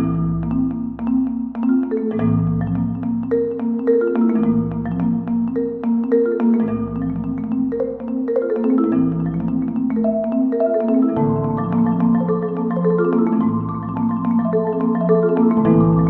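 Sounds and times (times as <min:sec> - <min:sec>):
mallet-like notes: 0:00.0 - 0:16.0.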